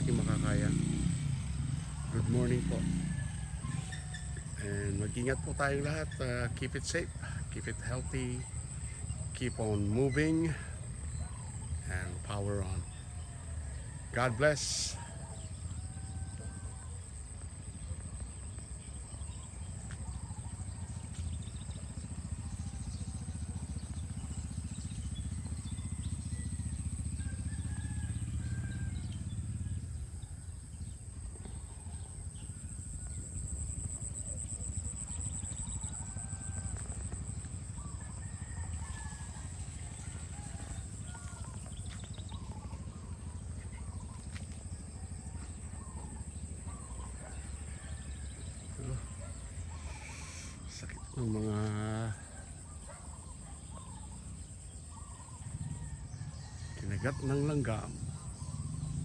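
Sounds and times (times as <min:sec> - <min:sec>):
steady high insect drone: 0:00.0 - 0:59.0.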